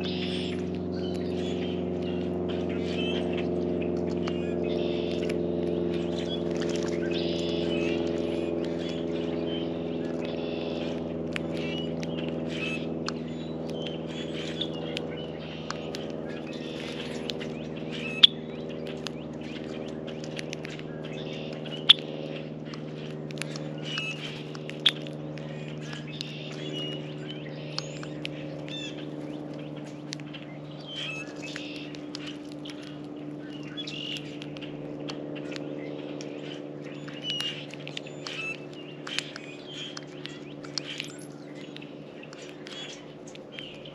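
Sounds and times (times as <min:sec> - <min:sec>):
sharp clicks: 0:00.0 - 0:43.9
small birds chirping: 0:00.0 - 0:43.9
steady low hum: 0:00.0 - 0:43.9.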